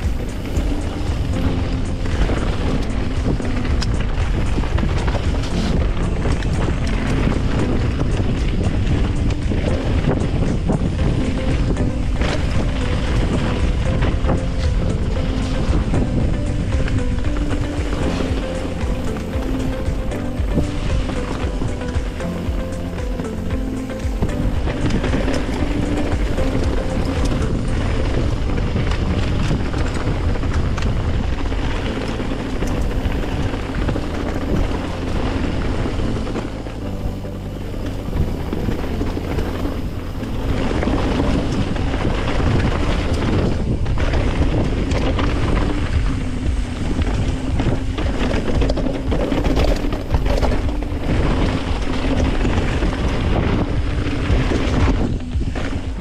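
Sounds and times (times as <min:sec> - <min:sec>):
bike rattling over rocks: 0:00.0 - 0:56.0
bike tyre noise: 0:00.0 - 0:56.0
wind rush on microphone: 0:00.0 - 0:56.0.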